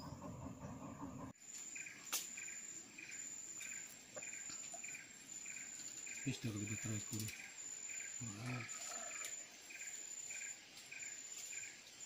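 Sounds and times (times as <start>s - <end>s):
insects whining and chirping: 0.0s - 12.0s.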